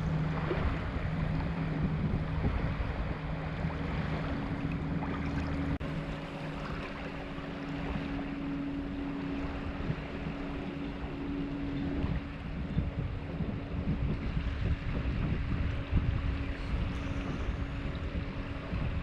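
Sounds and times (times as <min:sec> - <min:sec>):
choppy water washing: 0:00.0 - 0:19.0
low hum: 0:00.0 - 0:19.0
wind: 0:00.0 - 0:19.0.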